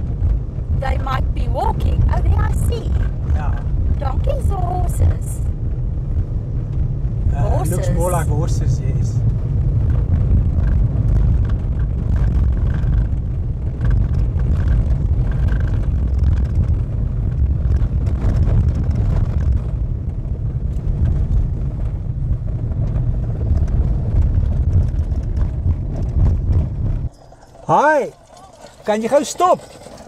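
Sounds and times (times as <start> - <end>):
tyres rumbling on gravel: 0.0 - 30.0.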